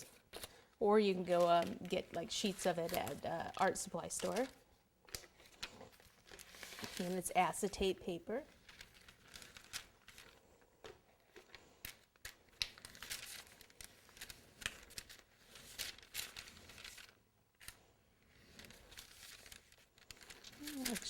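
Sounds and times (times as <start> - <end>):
plastic sheet crinkling: 0.0 - 21.0.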